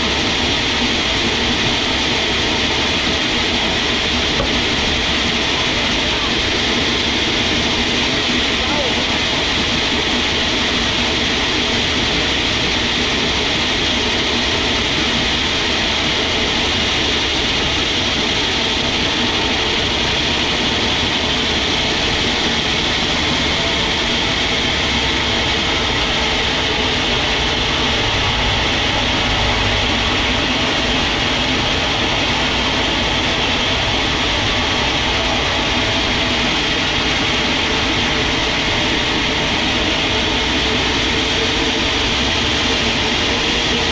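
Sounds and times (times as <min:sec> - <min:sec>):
sawmill machinery running: 0:00.0 - 0:43.9.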